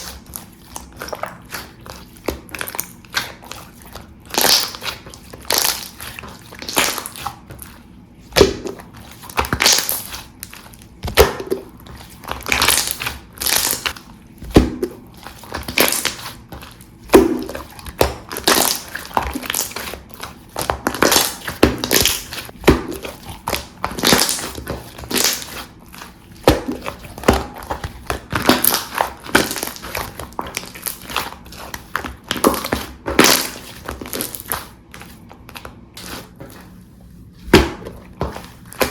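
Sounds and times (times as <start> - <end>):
slime squelching: 0.0 - 38.9.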